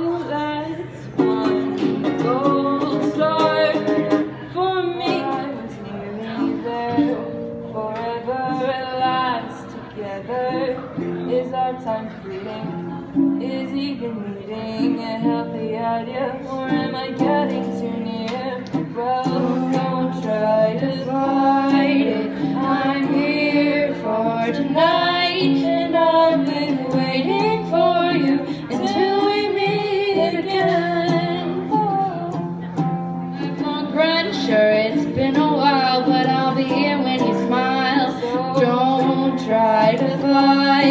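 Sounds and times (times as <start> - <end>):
ukulele: 0.0 - 40.9
woman singing: 0.0 - 40.9.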